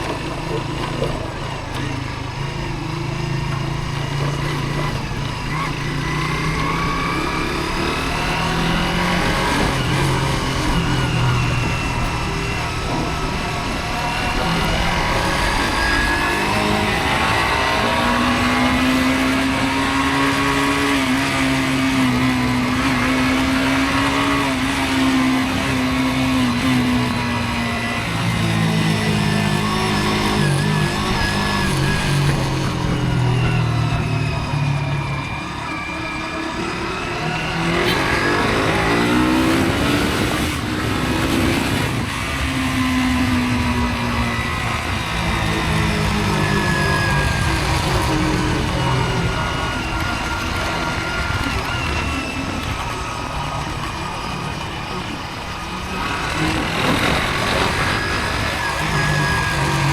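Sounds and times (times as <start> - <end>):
motorcycle engine running: 0.0 - 59.9
road and wind noise: 0.0 - 59.9.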